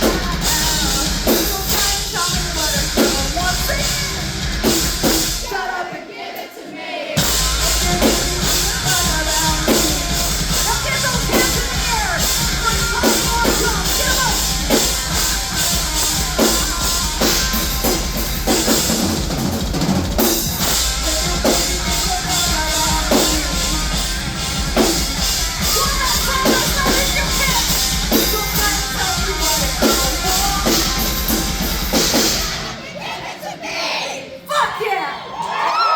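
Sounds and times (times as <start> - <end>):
live rock band playing: 0.0 - 5.6, 7.2 - 32.9
drum kit beat: 0.0 - 5.9, 7.2 - 32.9.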